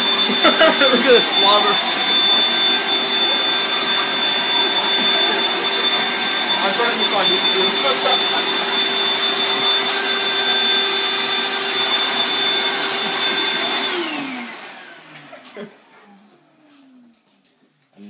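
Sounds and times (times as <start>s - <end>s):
vacuum cleaner motor whining: 0.0s - 17.3s.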